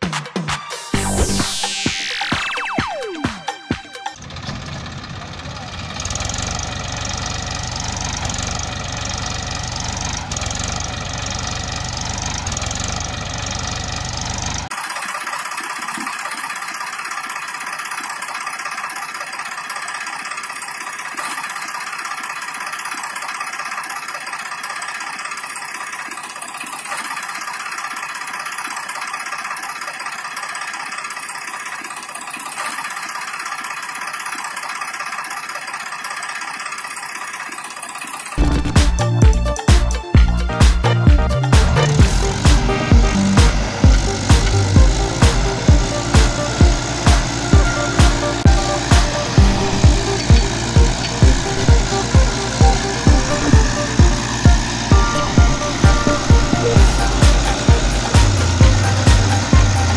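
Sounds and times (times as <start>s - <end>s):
tractor engines running: 0.8s - 59.9s.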